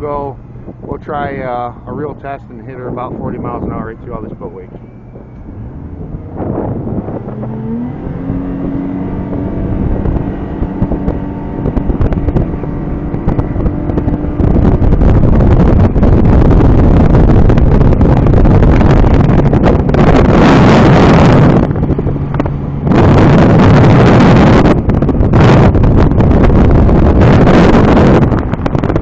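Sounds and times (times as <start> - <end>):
outboard motor at full throttle: 0.0 - 29.0
wind buffeting on microphone: 0.0 - 29.0.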